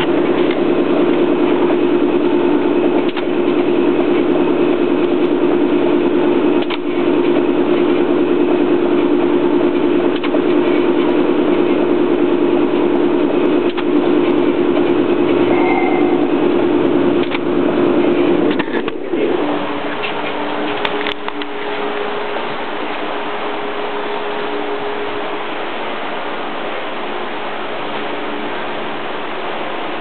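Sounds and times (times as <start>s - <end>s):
loud steady machine hum: 0.0s - 30.0s.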